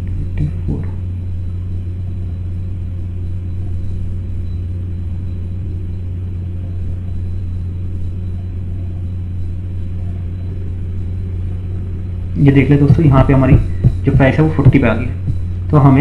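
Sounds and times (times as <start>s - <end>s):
steady low hum and rumble: 0.0s - 16.0s.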